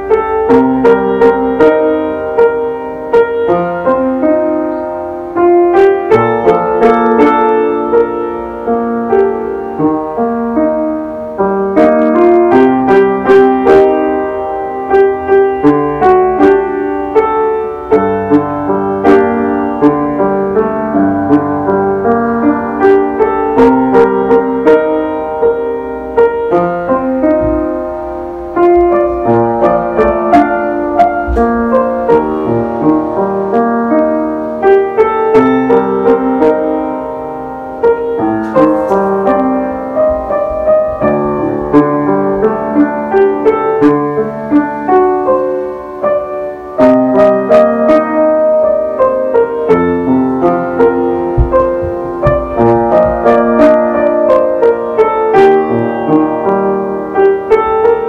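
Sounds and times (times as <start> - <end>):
upright piano playing: 0.0 - 58.0.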